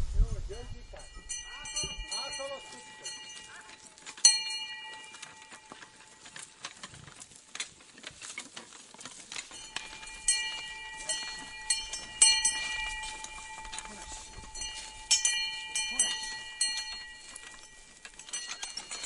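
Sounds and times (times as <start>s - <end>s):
ringing metallic clanks: 0.8s - 7.4s, 9.1s - 19.0s.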